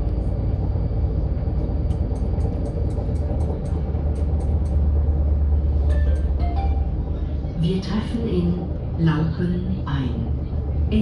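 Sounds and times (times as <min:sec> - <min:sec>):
faint hum: 0:00.0 - 0:11.0
train wheels rumbling on track: 0:00.0 - 0:11.0.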